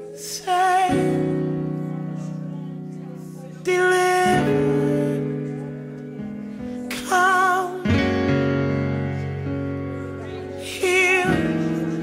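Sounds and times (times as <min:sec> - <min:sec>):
held keyboard chords: 0:00.0 - 0:12.0.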